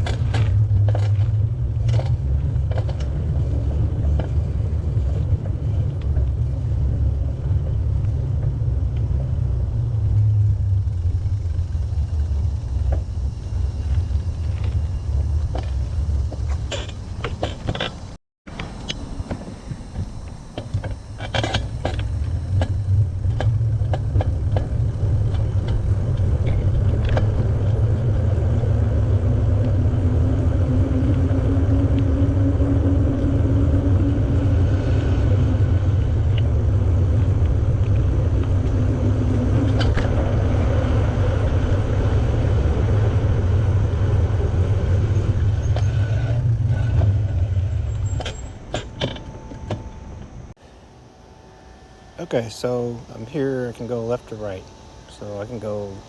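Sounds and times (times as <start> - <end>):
wind rumble on microphone: 0.0 - 50.5.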